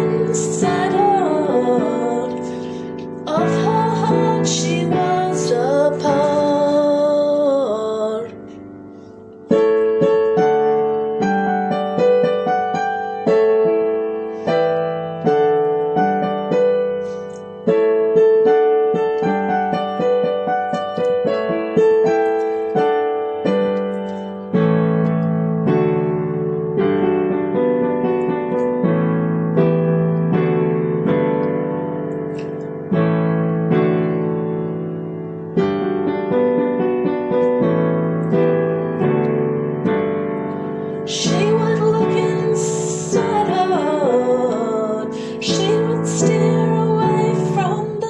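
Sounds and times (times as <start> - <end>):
piano playing: 0.0 - 48.0.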